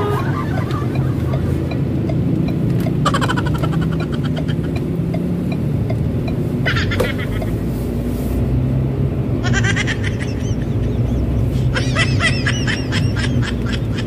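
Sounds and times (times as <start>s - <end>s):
car driving hum: 0.0s - 14.0s.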